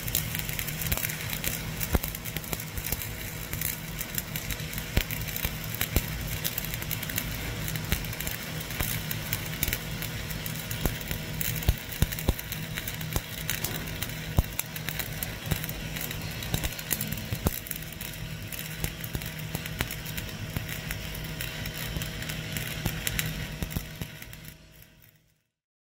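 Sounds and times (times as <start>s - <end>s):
steady low hum: 0.0s - 25.2s
welding arc crackling with pops: 0.0s - 25.6s.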